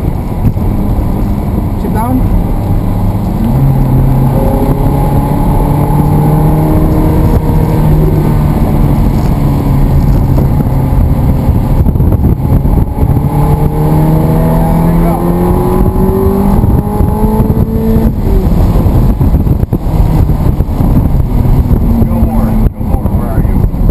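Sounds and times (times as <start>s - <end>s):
sports car engine accelerating: 0.0s - 23.9s.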